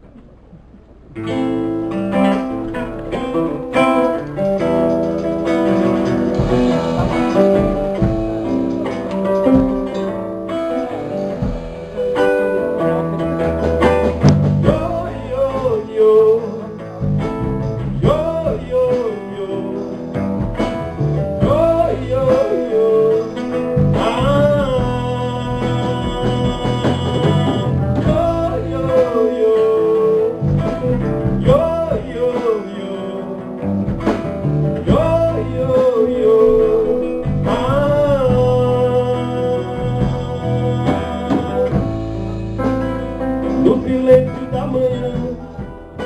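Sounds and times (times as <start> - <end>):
band playing live: 0.0 - 46.0
plucked acoustic guitar: 0.0 - 46.0.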